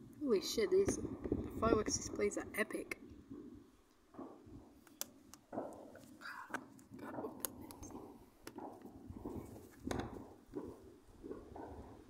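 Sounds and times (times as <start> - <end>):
distant fireworks bangs and pops: 0.8 - 12.0.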